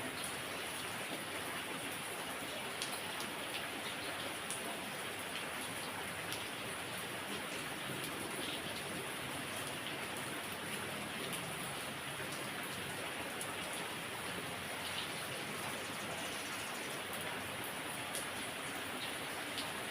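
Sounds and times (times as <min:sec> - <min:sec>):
heavy rain falling: 0:00.0 - 0:19.9
raindrops ticking on surfaces: 0:00.0 - 0:19.9.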